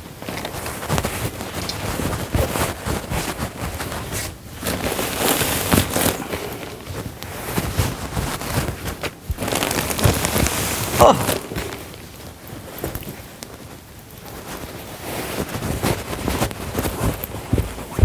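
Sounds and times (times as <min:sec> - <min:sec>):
rustling pillow stuffing: 0:00.0 - 0:18.0.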